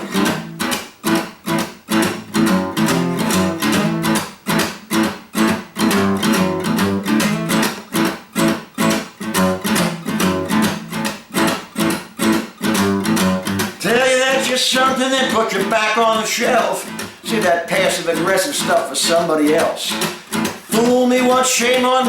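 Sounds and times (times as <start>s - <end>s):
acoustic guitar strumming blues: 0.0s - 22.0s.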